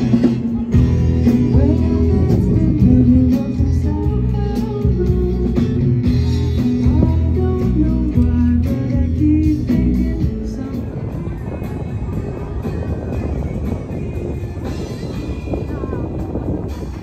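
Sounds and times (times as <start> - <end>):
bass guitar: 0.0 - 17.0
drums: 0.0 - 17.0
electric guitar: 0.0 - 17.0.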